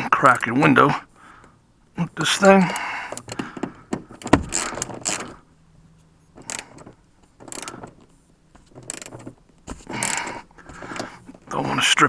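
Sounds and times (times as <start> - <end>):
scraping and rattling of trim: 0.0 - 12.0.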